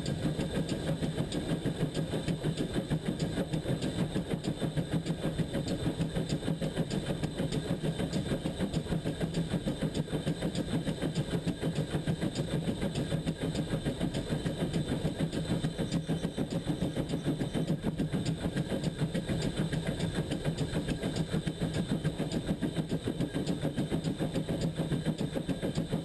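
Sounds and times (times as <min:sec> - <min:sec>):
rumble of wheels on track: 0:00.0 - 0:26.0
steam locomotive exhaust beats: 0:00.0 - 0:26.0.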